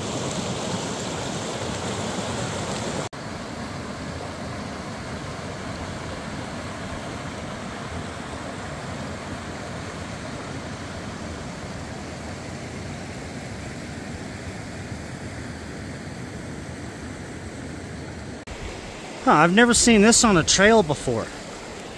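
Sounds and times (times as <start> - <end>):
creek water rushing: 0.0 - 21.9.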